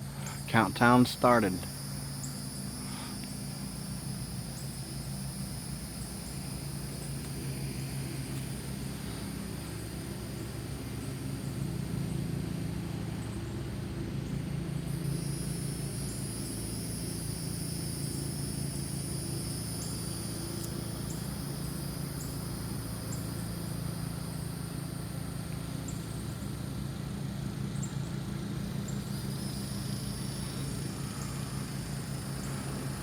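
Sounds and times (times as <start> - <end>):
high insect drone: 0.0 - 33.0
low motor hum: 0.0 - 33.0.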